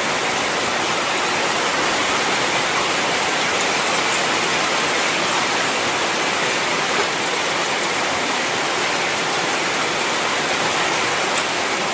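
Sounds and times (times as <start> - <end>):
heavy rain: 0.0 - 11.9.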